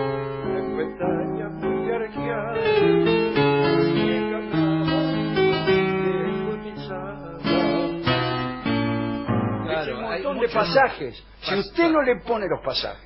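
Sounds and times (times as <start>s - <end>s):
guitar tango accompaniment: 0.0s - 11.7s.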